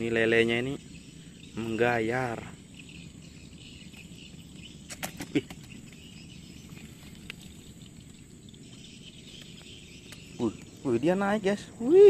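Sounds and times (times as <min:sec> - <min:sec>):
insect chirr: 0:00.0 - 0:12.0.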